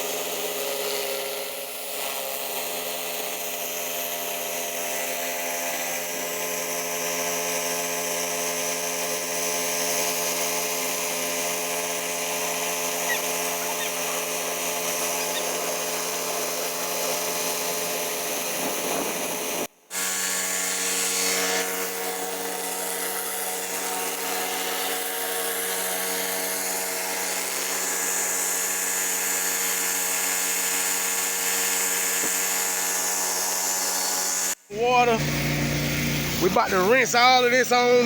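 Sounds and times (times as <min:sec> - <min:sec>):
pressure washer engine running: 0:00.0 - 0:38.0
water spraying concrete: 0:00.0 - 0:38.0.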